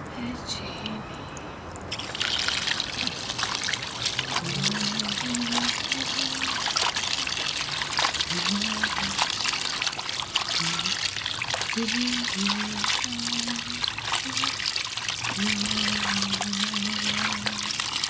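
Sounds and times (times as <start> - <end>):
water pouring and splashing: 0.8 - 18.0.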